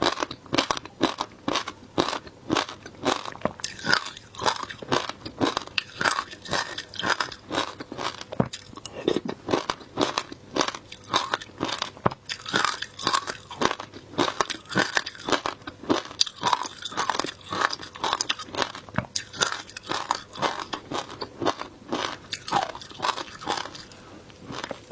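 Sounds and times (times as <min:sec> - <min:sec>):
crunching and chewing shaved ice: 0:00.0 - 0:24.9.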